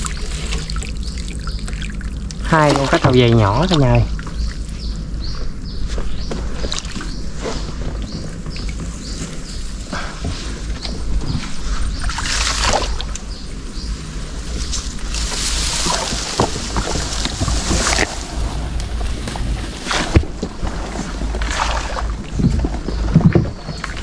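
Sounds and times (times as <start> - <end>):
low rumble: 0.0 - 24.0
water splashing and sloshing: 0.0 - 24.0.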